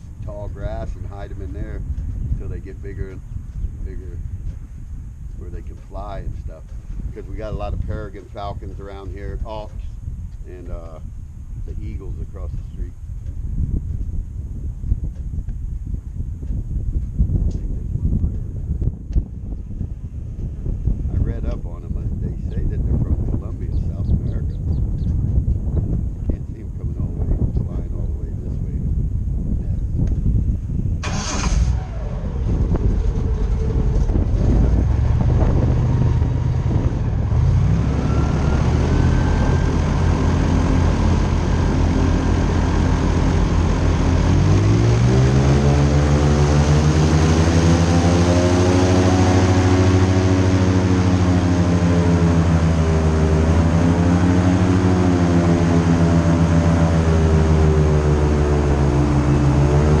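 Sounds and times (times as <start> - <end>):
airboat engine droning: 0.0 - 13.0, 17.5 - 28.9, 30.6 - 60.0.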